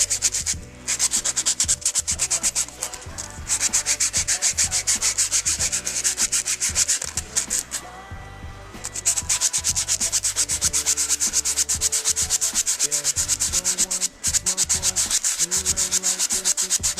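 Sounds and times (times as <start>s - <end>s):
sandpaper rasping on metal: 0.0s - 7.8s, 8.8s - 16.9s
low machine hum: 0.0s - 16.9s.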